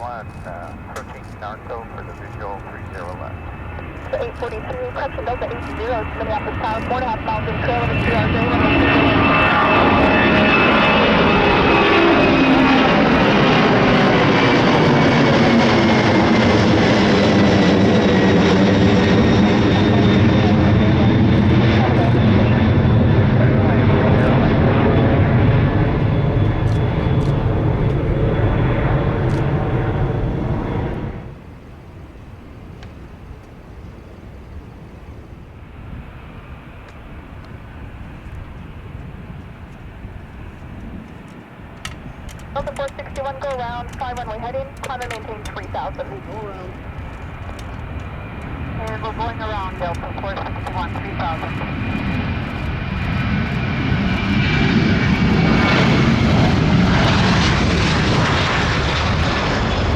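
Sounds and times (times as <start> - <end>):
jet engine noise: 0.0 - 59.9.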